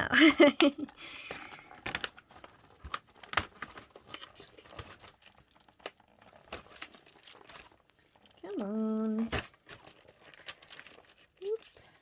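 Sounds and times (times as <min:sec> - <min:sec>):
packaging crinkling and clicking: 0:00.8 - 0:12.0.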